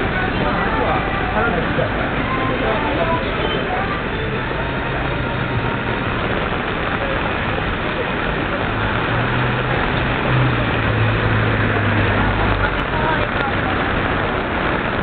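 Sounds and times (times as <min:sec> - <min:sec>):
rain on street and umbrellas: 0:00.0 - 0:15.0
traffic: 0:00.0 - 0:15.0
vehicle engine hum: 0:00.0 - 0:15.0.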